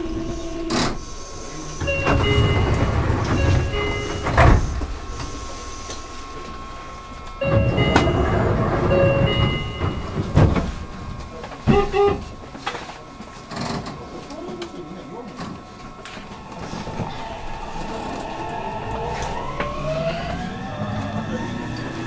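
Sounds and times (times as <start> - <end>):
electric train rumble: 0.0 - 22.0
steady whining tones: 0.0 - 22.0.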